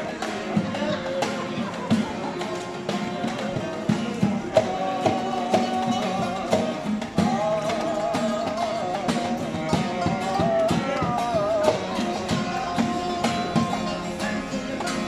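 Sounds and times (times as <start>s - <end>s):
acoustic guitar strumming: 0.0s - 15.0s
long-necked lute melody: 0.0s - 15.0s.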